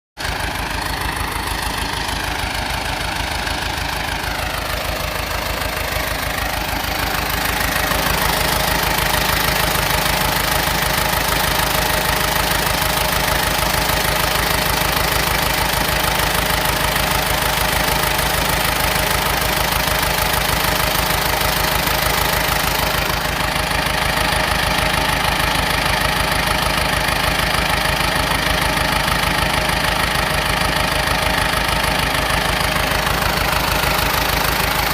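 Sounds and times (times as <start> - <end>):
bulldozer diesel engine running: 0.2 - 34.9.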